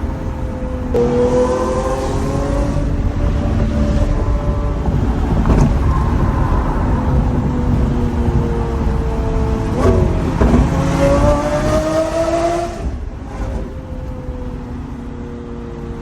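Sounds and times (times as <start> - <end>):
sports car engine cruising: 0.0 - 16.0.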